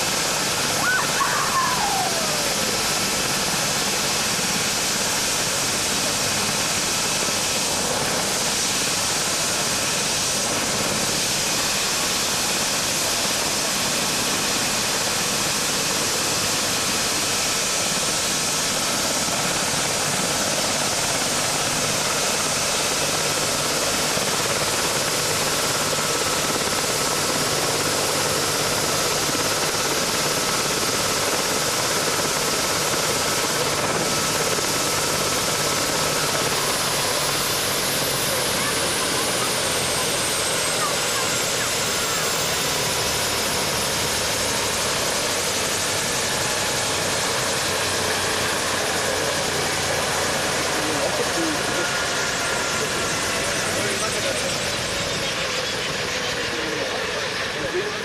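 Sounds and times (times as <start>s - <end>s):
helicopter idling: 0.0s - 58.0s.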